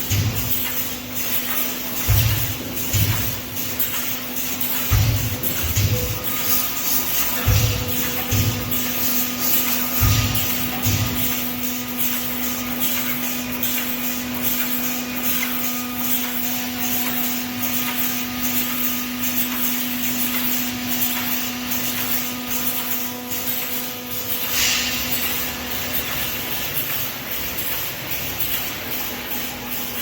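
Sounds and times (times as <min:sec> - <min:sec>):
fast regular ticking: 0:00.0 - 0:30.0
welding machine humming: 0:00.0 - 0:30.0.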